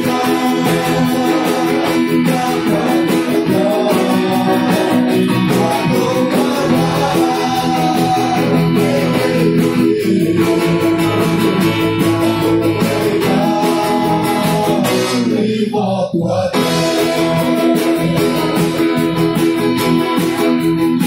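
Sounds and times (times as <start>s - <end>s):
loud music with guitar and beat: 0.0s - 15.6s, 16.3s - 21.0s.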